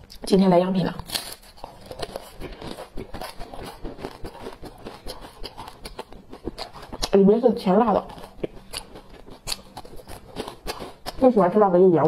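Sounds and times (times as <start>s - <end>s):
crunchy pastry chewing: 0.0s - 11.7s.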